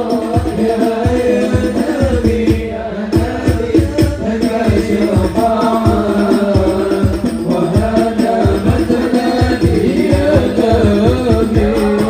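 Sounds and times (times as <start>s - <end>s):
men singing devotional song: 0.0s - 12.0s
steady drum beat: 0.0s - 12.0s.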